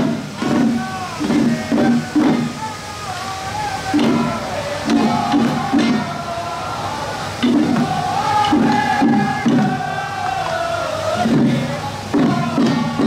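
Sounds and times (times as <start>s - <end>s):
crowd chanting rhythmically: 0.0s - 2.6s, 3.4s - 13.0s
procession music: 0.0s - 13.0s.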